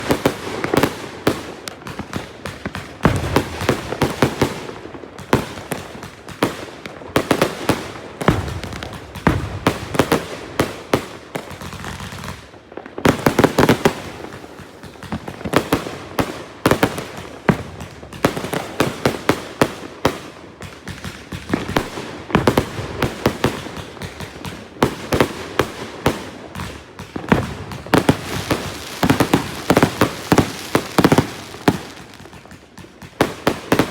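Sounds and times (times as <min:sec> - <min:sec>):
firework volleys of sharp bangs: 0:00.0 - 0:33.9.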